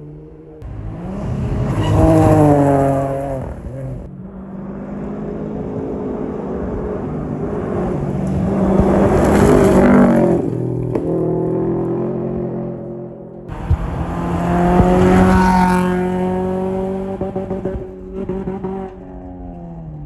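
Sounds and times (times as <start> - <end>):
rally car passing at full throttle: 0.0 - 20.0.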